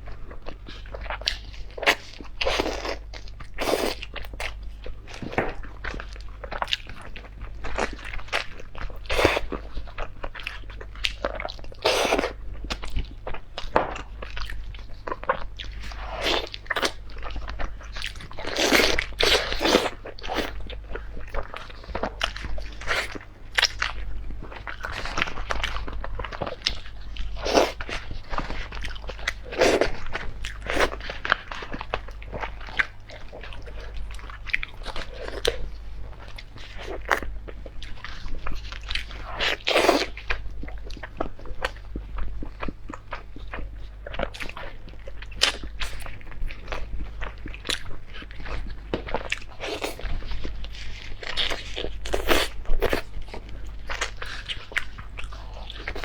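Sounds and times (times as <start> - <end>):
person chewing and biting food: 0.1 - 56.0.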